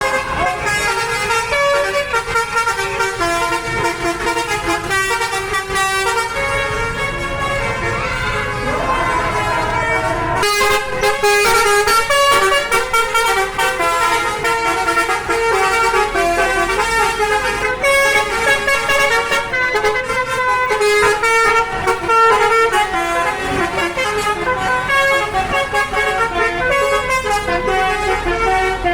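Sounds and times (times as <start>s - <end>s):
multi-tone bus horns playing tunes: 0.0s - 28.9s.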